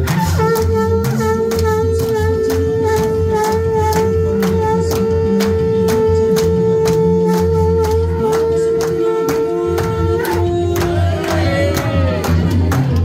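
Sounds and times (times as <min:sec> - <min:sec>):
held wind instrument tone: 0:00.0 - 0:12.7
drum beat: 0:00.0 - 0:13.0.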